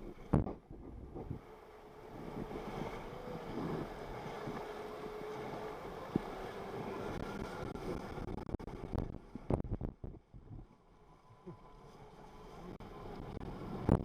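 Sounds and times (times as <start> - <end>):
wind noise on microphone: 0.0 - 10.7, 12.6 - 14.0
jet ski engine running: 0.0 - 14.0.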